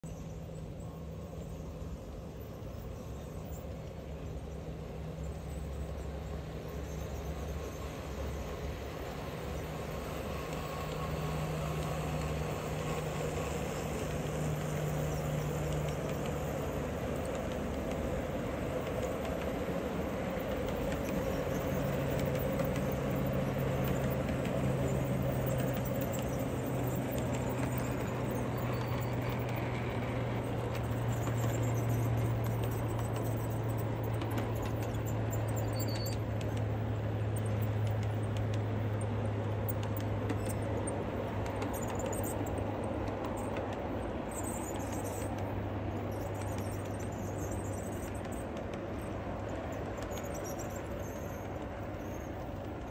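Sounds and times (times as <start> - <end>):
model train wheels rumbling on rail: 0.0 - 52.9.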